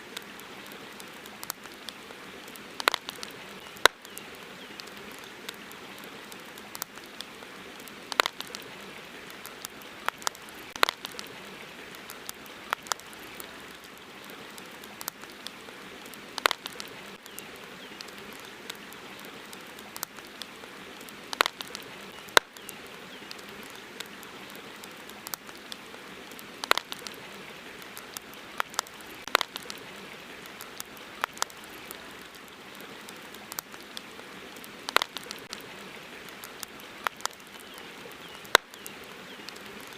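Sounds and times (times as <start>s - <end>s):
campfire crackling and popping: 0.0s - 39.9s
steady hiss: 0.0s - 39.9s.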